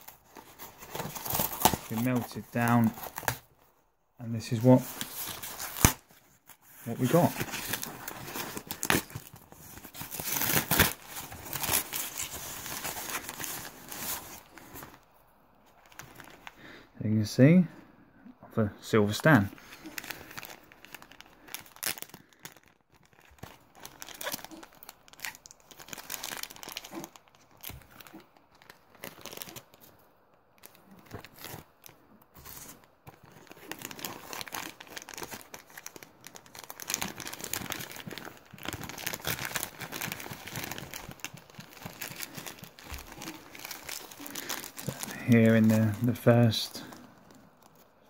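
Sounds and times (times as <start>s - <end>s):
plastic packaging crinkling: 0.0s - 3.5s, 4.4s - 15.0s, 15.7s - 16.6s, 19.6s - 30.0s, 30.6s - 48.0s.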